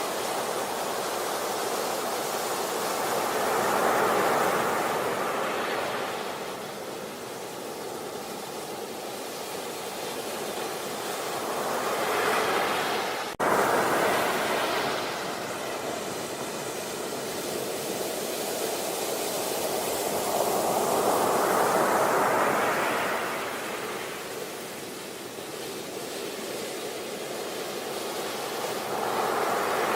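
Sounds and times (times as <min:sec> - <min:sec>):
sea waves washing onto beach: 0:00.0 - 0:29.9.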